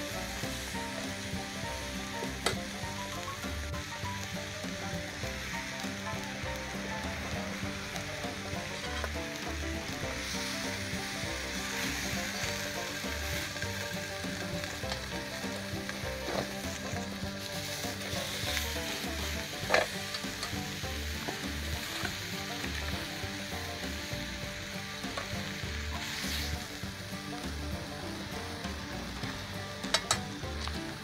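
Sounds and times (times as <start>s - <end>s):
chicken sizzling on a griddle: 0.0s - 31.0s.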